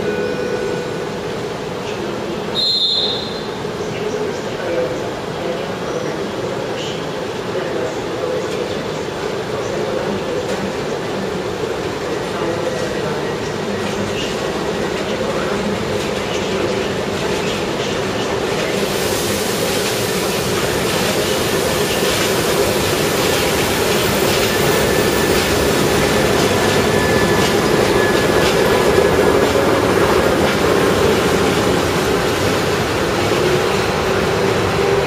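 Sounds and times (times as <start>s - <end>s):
diesel locomotive engines: 0.0s - 35.0s
passenger coaches rolling by: 0.0s - 35.0s.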